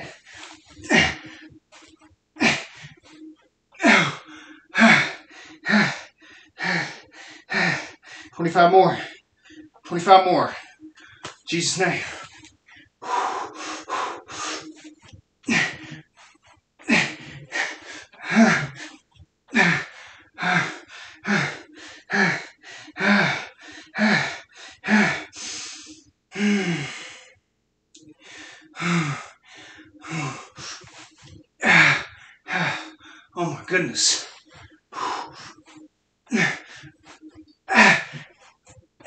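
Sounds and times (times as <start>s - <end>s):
man breathing hard and gasping: 3.8s - 27.3s, 28.1s - 38.4s.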